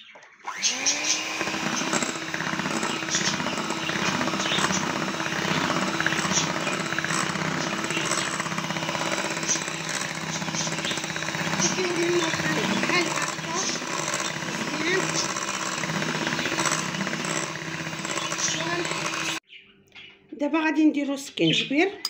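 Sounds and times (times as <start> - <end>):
electric hand mixer humming: 0.4 - 19.4
beaters rattling in bowl: 1.3 - 19.4.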